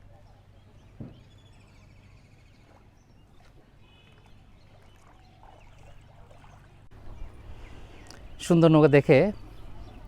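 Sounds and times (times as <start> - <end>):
distant bird chirping trills: 0.0 - 10.0.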